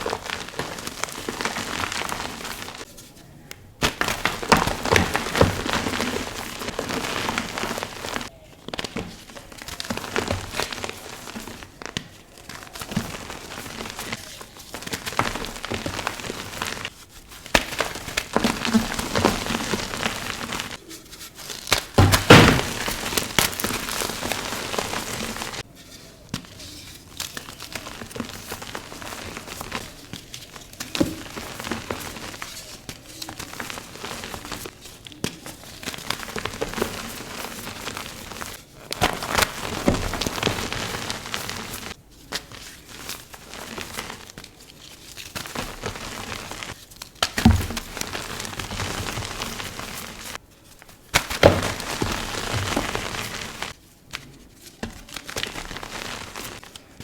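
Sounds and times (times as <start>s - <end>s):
chalk blocks crunching: 0.0s - 57.0s
powder crumbling: 0.0s - 57.0s.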